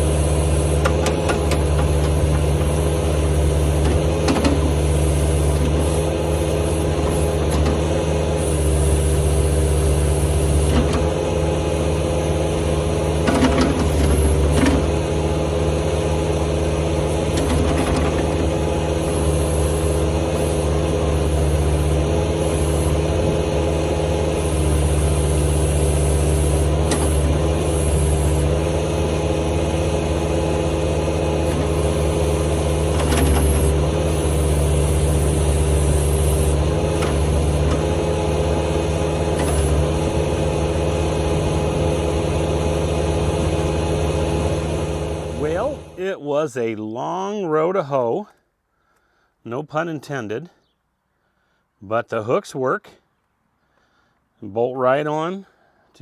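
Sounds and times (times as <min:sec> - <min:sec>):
diesel engine running: 0:00.0 - 0:46.3.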